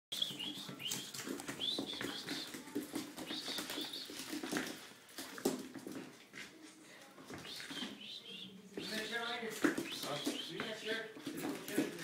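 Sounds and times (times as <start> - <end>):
scratching and scuffling: 0.2 - 12.0.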